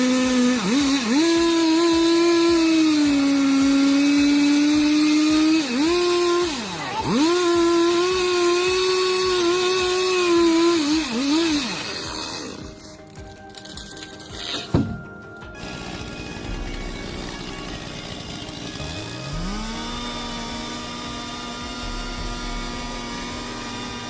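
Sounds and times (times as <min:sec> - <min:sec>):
chainsaw revving: 0:00.0 - 0:15.0, 0:15.6 - 0:24.0.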